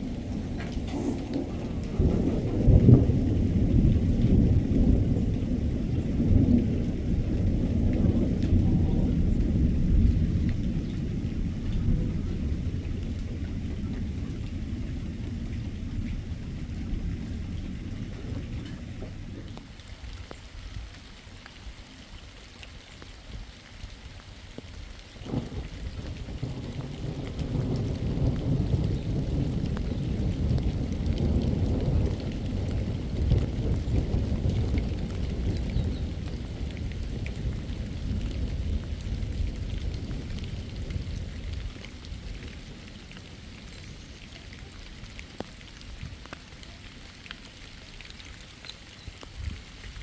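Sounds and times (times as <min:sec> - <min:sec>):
thunder rumbling: 0:00.0 - 0:20.8, 0:24.9 - 0:46.7
rain falling: 0:00.0 - 0:50.0.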